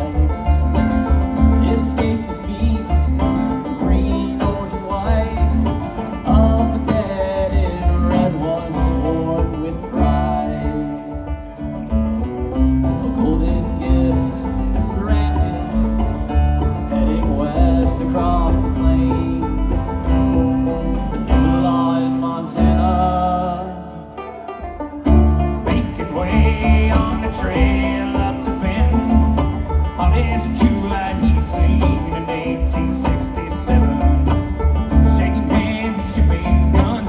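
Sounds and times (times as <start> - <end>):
acoustic guitar picking: 0.0 - 37.0
banjo picking: 0.0 - 37.0
upright bass: 0.0 - 37.0.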